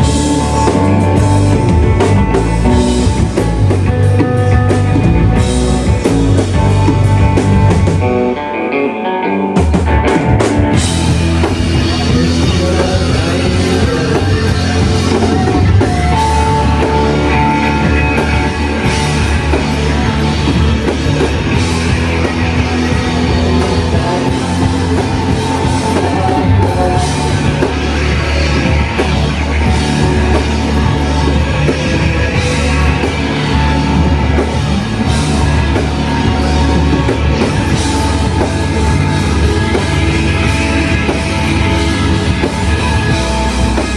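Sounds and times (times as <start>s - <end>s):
rock band playing loud: 0.0s - 43.9s.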